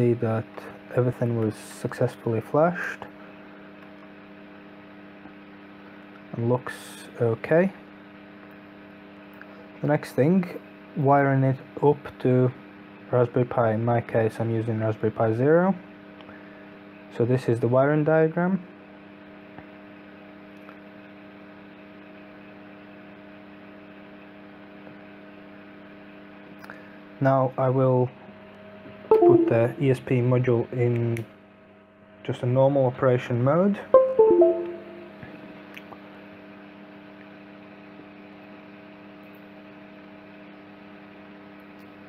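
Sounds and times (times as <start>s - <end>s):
electrical hum with fixed tones: 0.0s - 42.0s.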